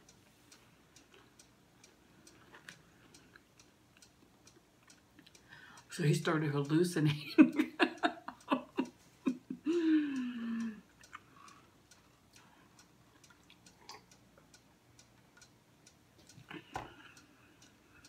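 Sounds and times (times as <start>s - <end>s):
faint regular ticking: 0.0s - 18.0s.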